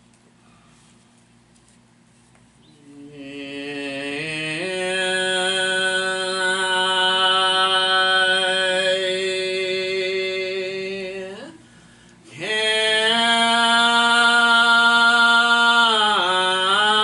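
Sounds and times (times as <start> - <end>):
person singing gospel: 2.7 - 17.0.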